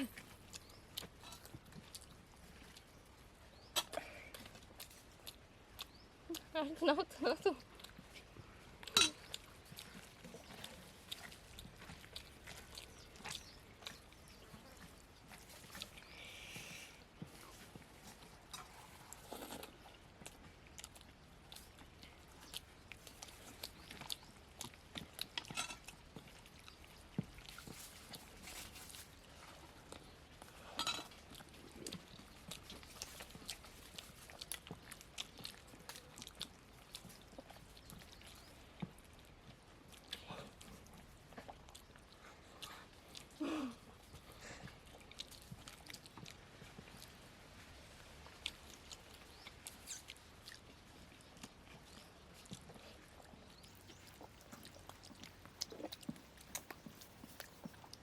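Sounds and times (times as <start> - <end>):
chewing and lip-smacking: 0.0 - 58.0.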